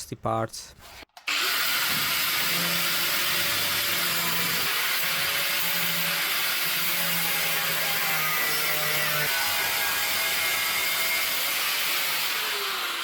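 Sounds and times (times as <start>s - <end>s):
power tool cutting sheet steel: 1.2s - 13.0s.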